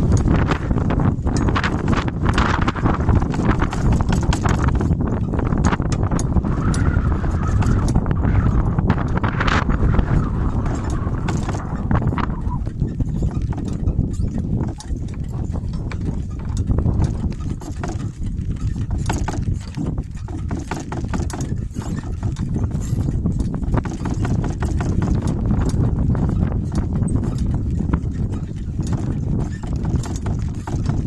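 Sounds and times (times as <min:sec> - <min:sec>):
donkey hooves clopping: 0:00.0 - 0:31.0
sharp clicks and knocks: 0:00.0 - 0:31.0
wind rumble on microphone: 0:00.0 - 0:31.0.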